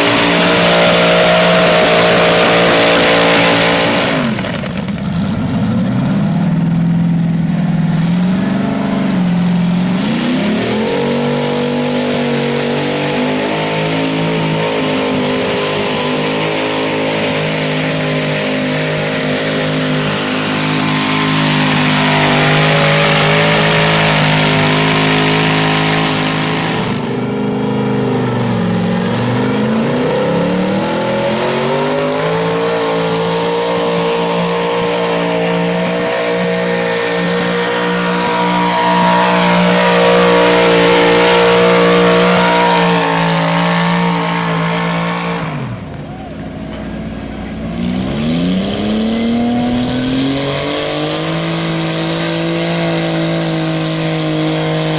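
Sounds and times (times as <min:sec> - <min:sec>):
tractor engine revving hard: 0:00.0 - 0:54.9.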